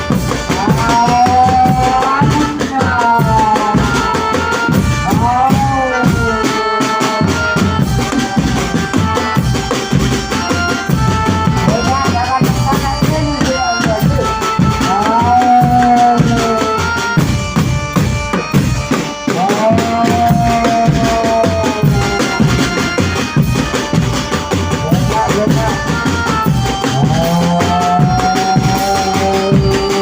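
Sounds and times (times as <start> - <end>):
hand drums beating: 0.0 - 30.0
sliding melody line: 0.0 - 30.0.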